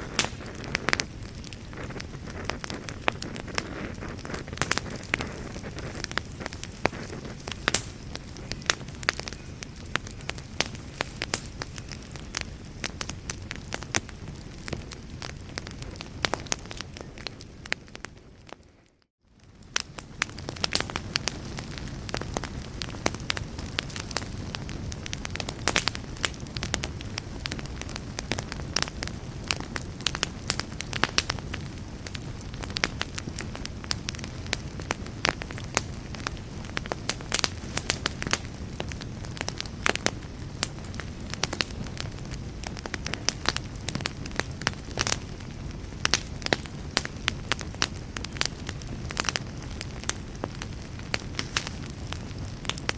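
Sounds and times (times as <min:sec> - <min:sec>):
fire crackling and popping: 0:00.0 - 0:52.9
low rumble of flames: 0:00.0 - 0:52.9.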